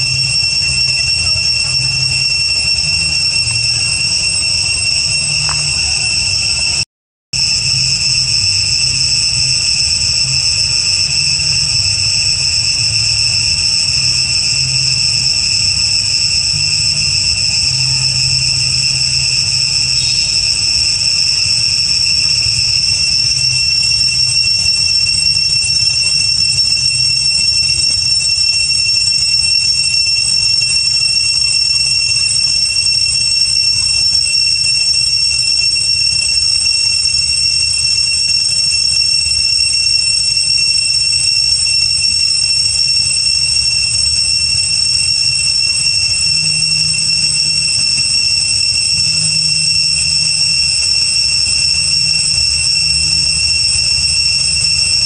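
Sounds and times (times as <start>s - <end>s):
cicadas droning: 0.0s - 6.8s, 7.4s - 55.0s.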